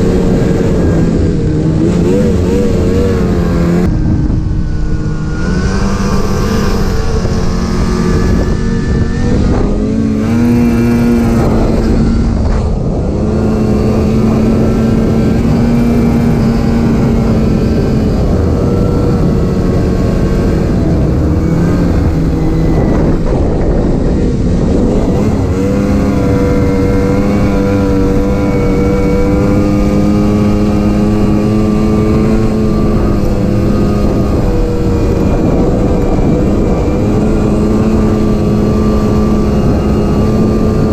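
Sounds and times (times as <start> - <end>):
snowmobile engine revving: 0.0 - 40.9.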